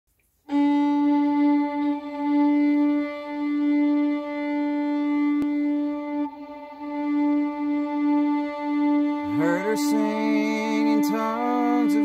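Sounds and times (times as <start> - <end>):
violin long bowed note: 0.5 - 12.0.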